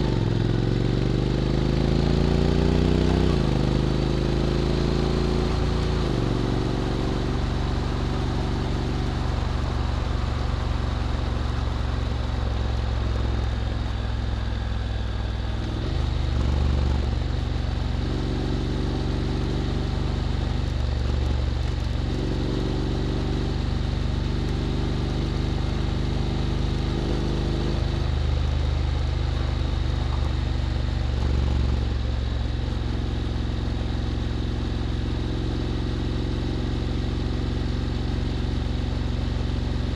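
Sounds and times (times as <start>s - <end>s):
wind: 0.0s - 39.9s
road noise: 1.6s - 39.9s
motorcycle engine rumble: 2.5s - 39.9s.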